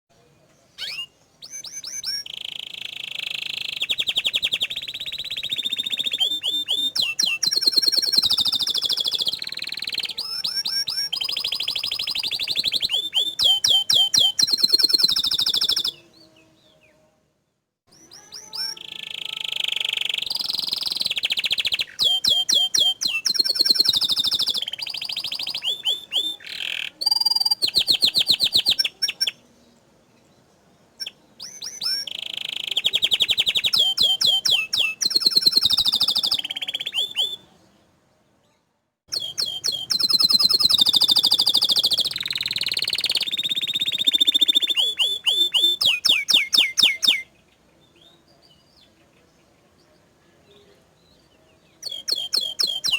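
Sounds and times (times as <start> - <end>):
canary singing trills: 0.7 - 17.0, 17.9 - 29.5, 30.9 - 37.6, 39.1 - 49.9, 50.5 - 52.9.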